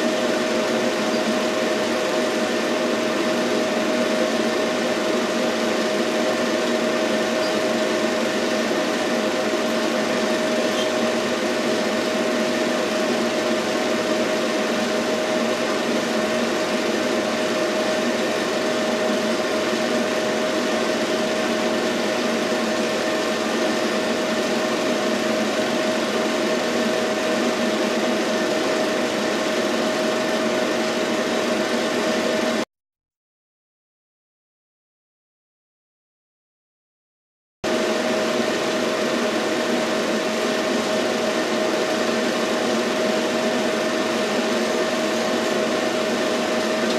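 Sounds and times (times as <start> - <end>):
film projector whirring: 0.0 - 32.6, 37.7 - 46.9.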